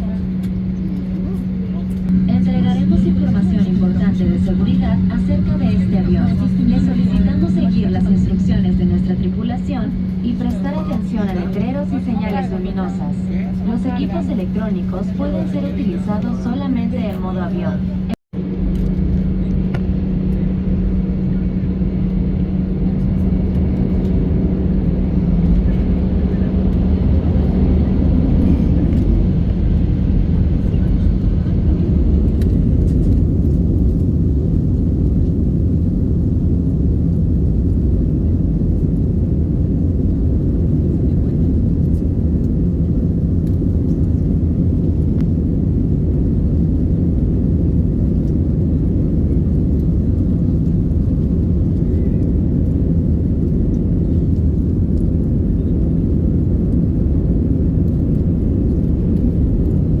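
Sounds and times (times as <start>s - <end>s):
aircraft cabin engine rumble: 0.0s - 60.0s.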